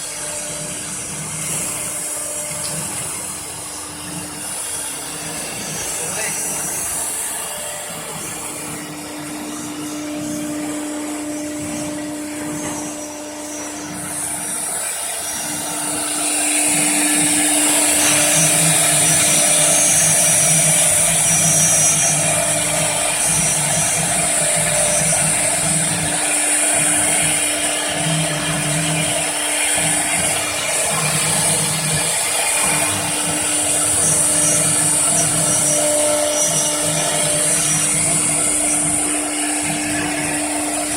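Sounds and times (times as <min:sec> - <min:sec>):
router spindle whine: 0:00.0 - 0:40.9
bit cutting material: 0:01.2 - 0:40.9.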